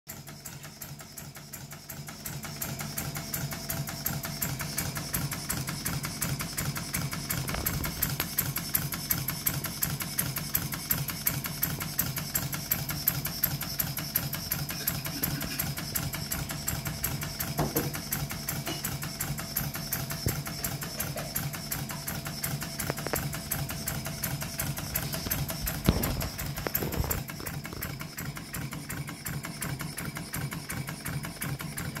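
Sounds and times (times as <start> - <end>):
model steam engine running: 0.1 - 32.0.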